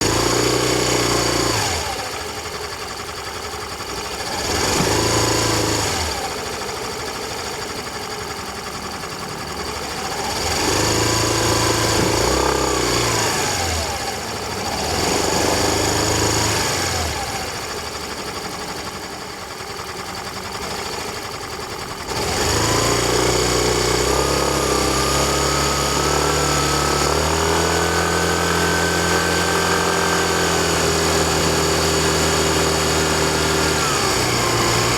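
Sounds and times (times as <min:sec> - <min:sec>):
scooter engine revving: 0:00.0 - 0:34.9.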